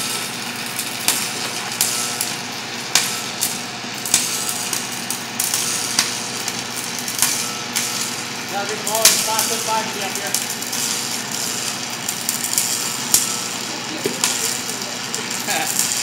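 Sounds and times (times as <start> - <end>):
welding arc crackling hiss: 0.0 - 16.0
welding arc sharp cracks: 0.0 - 16.0.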